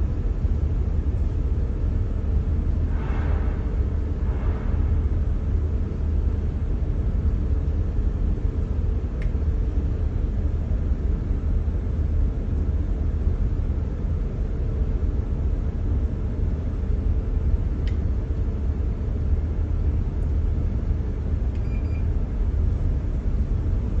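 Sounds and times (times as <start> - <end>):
hvac equipment humming: 0.0 - 24.0.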